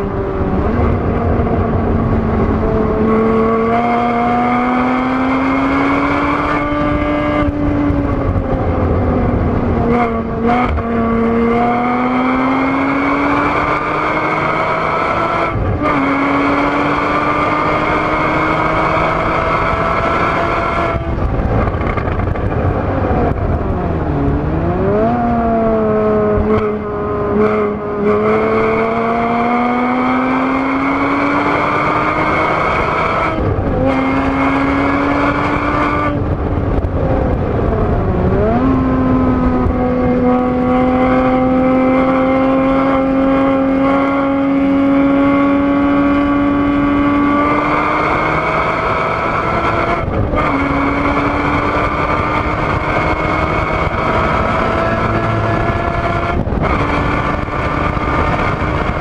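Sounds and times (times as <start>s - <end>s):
car engine at high revs: 0.0s - 59.0s
tyre and wind noise: 0.0s - 59.0s.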